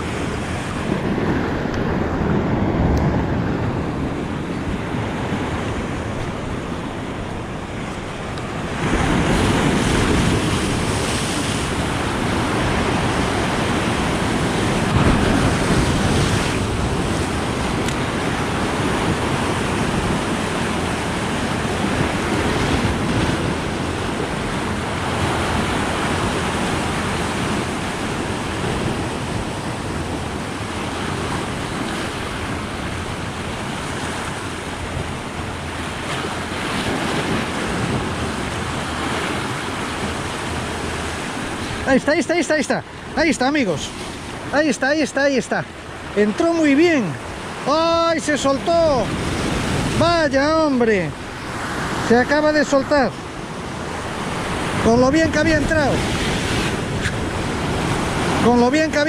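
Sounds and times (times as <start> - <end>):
surf breaking on rocks: 0.0 - 59.0.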